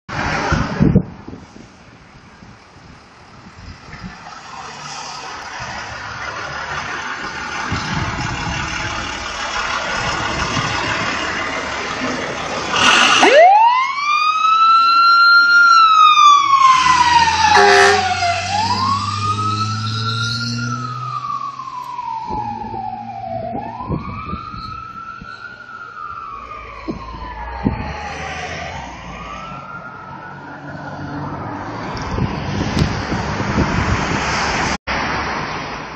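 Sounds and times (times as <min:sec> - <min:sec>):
diesel engine pulling out: 0:00.1 - 0:35.8
fire truck siren wailing: 0:04.4 - 0:34.8.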